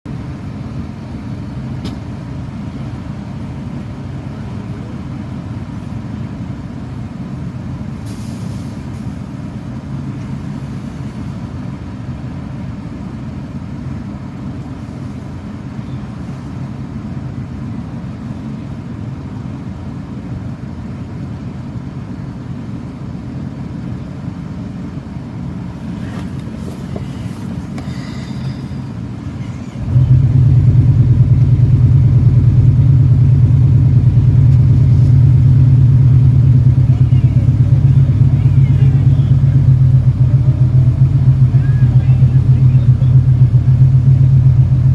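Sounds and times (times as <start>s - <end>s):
low rumble of vehicles: 0.0s - 44.9s.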